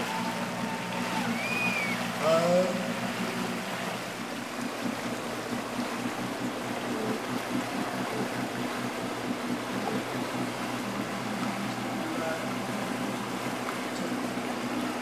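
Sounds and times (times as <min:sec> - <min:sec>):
motorboat engine humming: 0:00.0 - 0:15.0.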